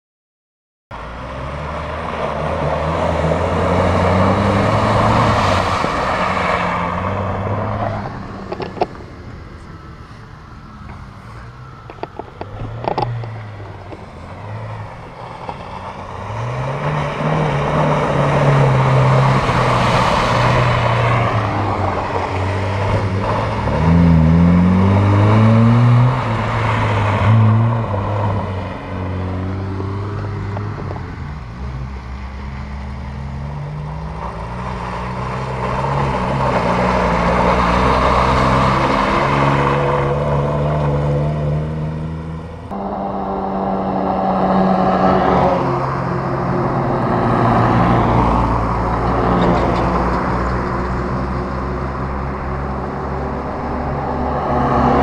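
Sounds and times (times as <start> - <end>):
tyres rushing through mud: 1.0 - 8.4, 12.6 - 55.0
off-road vehicle engine revving: 1.0 - 8.9, 10.8 - 55.0.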